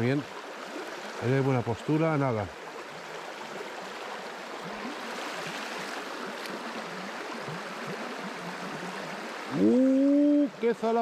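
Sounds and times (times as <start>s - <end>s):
river flowing over gravel: 0.0s - 11.0s.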